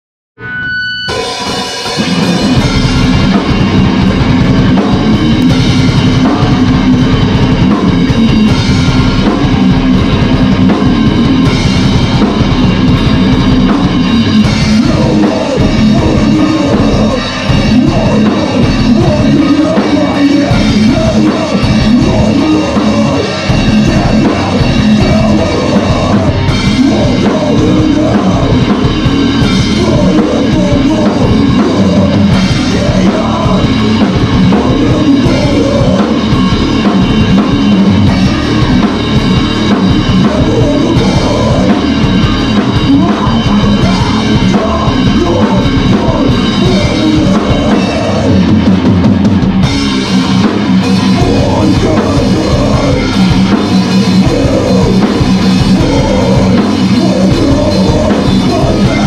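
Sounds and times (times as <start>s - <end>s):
distorted electric guitars: 0.4s - 59.0s
drum kit with heavy bass drum: 1.0s - 59.0s.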